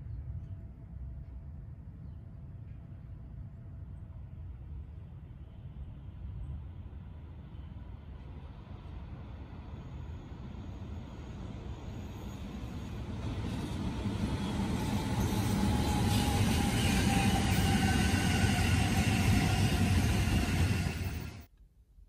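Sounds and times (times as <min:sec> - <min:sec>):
electric train rumbling past: 0:00.5 - 0:21.5.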